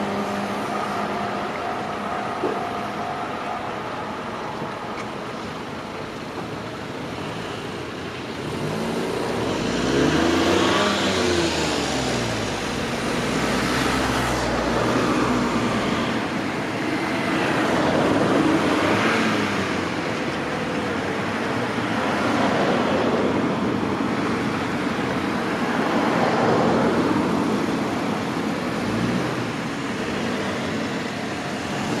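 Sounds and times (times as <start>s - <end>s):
steady traffic noise: 0.0s - 32.0s
vehicles passing by: 0.0s - 32.0s.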